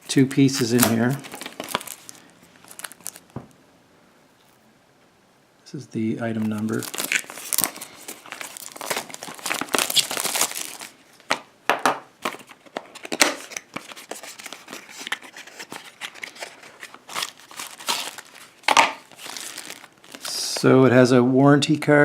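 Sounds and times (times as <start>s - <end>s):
packaging crinkling and rustling: 0.0s - 3.5s, 6.3s - 20.6s.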